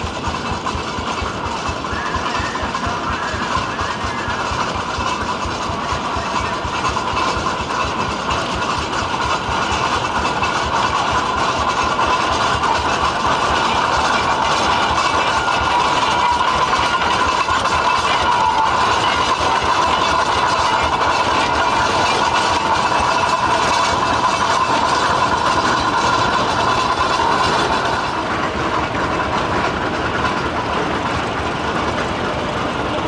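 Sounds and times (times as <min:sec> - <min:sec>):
tractor engine clattering: 0:00.0 - 0:33.0.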